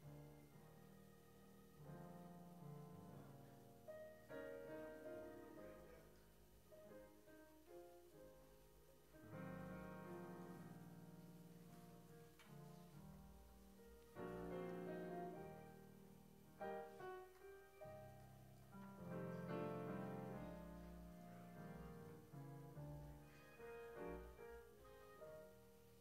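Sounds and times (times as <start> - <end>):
slow keyboard chords: 0.0 - 26.0.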